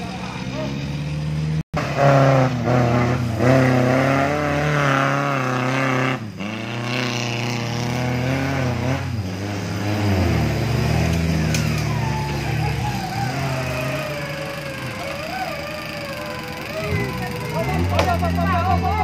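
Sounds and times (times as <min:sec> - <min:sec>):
engine revving hard: 0:00.2 - 0:19.0.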